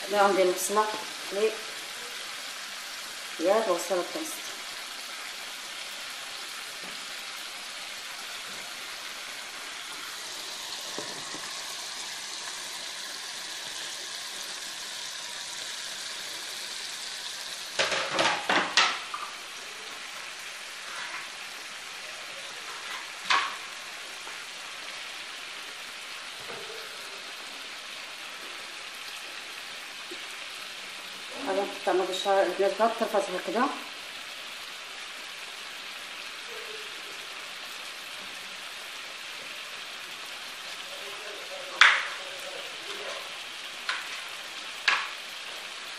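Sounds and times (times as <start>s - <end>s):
meat and onion sizzling in oil: 0.0s - 45.9s.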